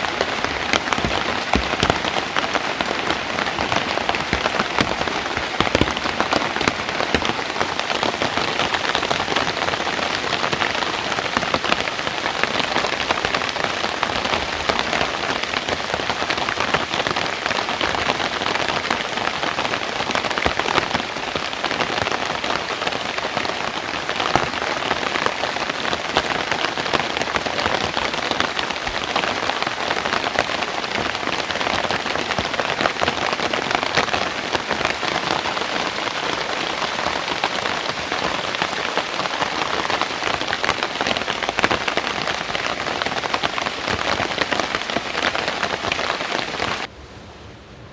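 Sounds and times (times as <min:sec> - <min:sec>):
steady rain pattering: 0:00.0 - 0:46.9.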